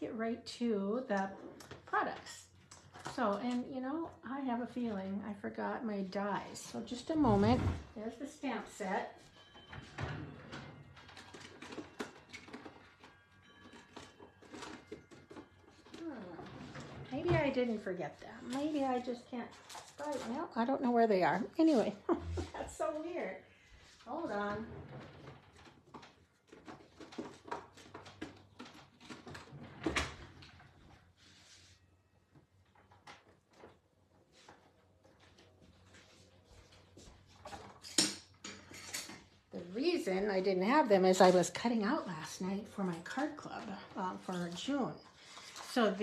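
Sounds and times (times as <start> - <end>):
rummaging through craft supplies: 6.2 - 46.0.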